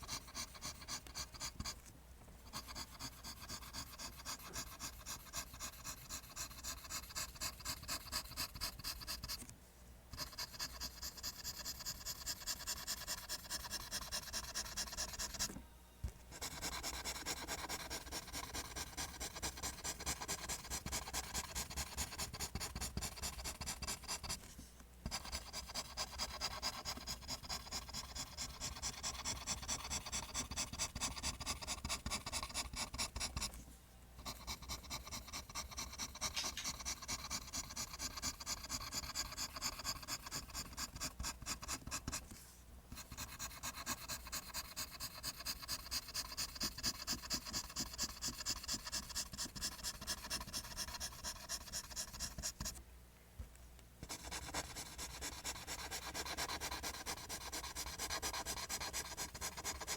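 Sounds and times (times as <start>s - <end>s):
pencil scratching on paper: 0.0s - 1.9s, 2.5s - 9.5s, 10.1s - 15.6s, 16.3s - 33.6s, 34.2s - 52.8s, 54.0s - 59.9s.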